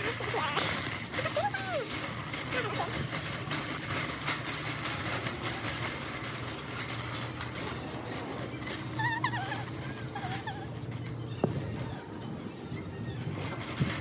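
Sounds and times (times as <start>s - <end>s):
low hum of shop background: 0.0s - 14.0s.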